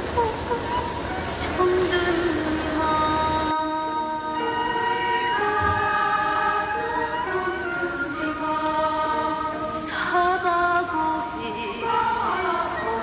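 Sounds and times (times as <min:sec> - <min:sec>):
choir singing long held notes: 0:00.0 - 0:13.0.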